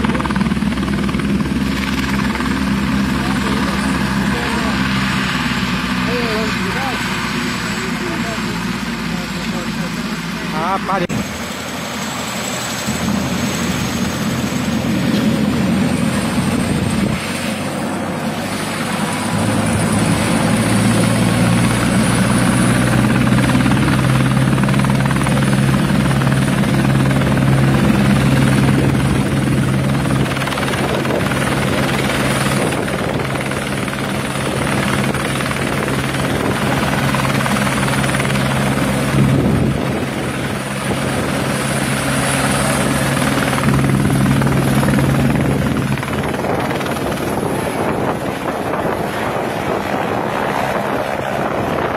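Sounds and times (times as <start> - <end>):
helicopter idling: 0.0 - 51.9.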